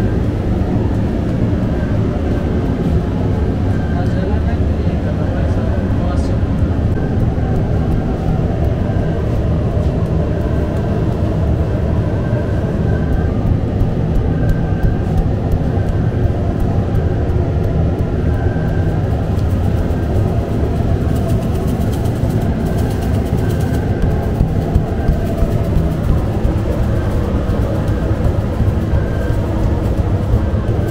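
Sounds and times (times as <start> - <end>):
bakery machinery rumbling: 0.0 - 30.9
seeds pattering onto dough: 5.9 - 30.9.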